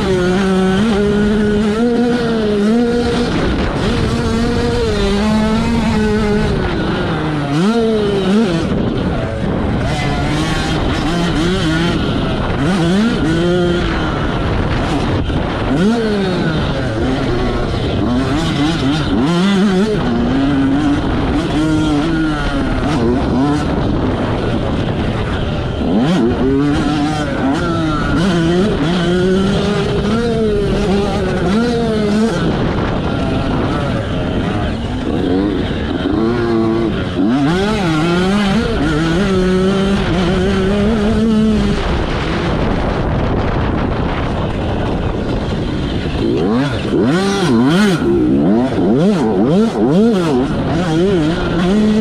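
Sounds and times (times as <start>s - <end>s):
motocross engine revving: 0.0s - 52.0s.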